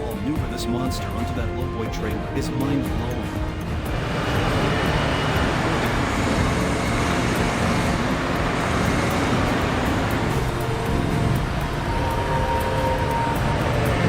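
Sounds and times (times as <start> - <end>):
heavy diesel engine running: 0.0 - 14.0
road noise: 0.0 - 14.0.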